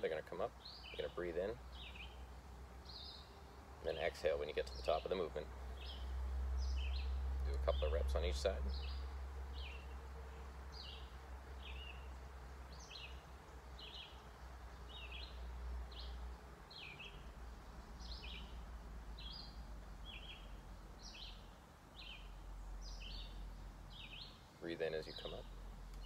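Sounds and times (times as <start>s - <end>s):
low steady rumble: 0.0s - 26.0s
songbird chirping: 0.0s - 26.0s.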